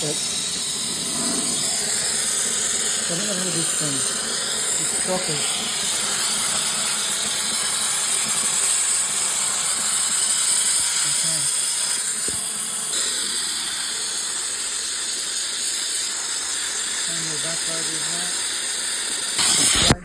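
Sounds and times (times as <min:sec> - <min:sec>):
steam cleaner hissing: 0:00.0 - 0:20.0.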